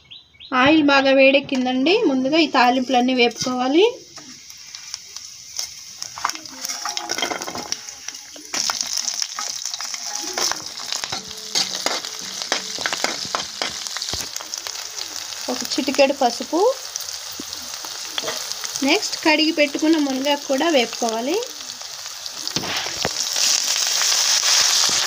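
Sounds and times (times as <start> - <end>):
spices sizzling in hot oil: 1.6 - 25.0.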